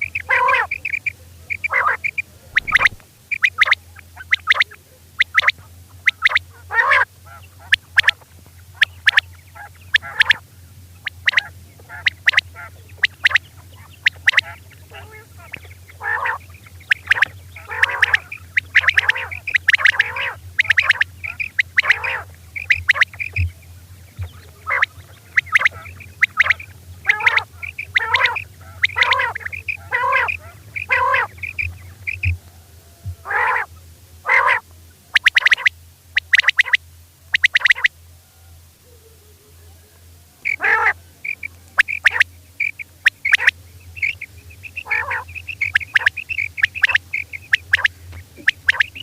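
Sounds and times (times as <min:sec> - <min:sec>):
quail calling in harsh notes: 0:00.0 - 0:23.5, 0:24.2 - 0:38.0, 0:40.4 - 0:49.0
low hum: 0:00.0 - 0:49.0.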